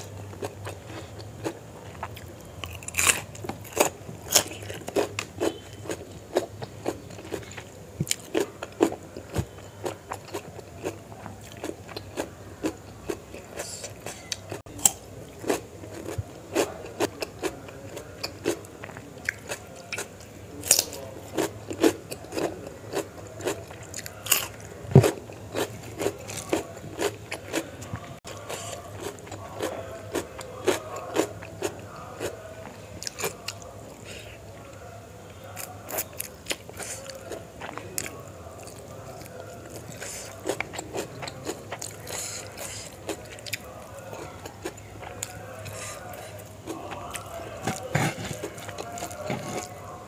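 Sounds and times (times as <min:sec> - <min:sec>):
crunching and chewing cucumber: 0:00.0 - 0:50.0.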